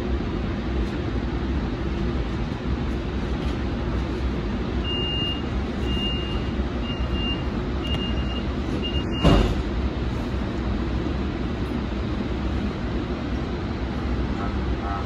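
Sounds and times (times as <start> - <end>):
light-rail vehicle rumbling: 0.0 - 15.0.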